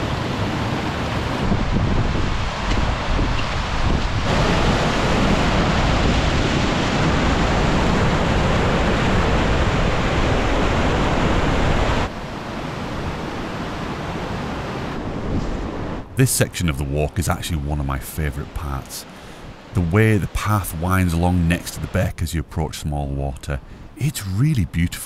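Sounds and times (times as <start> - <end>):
water rushing over rocks: 0.0 - 12.1, 16.2 - 25.0.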